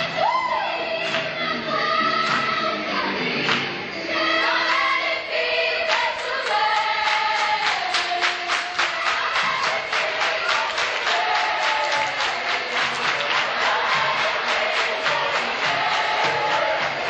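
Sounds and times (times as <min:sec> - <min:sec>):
choir singing with music: 0:00.0 - 0:17.0.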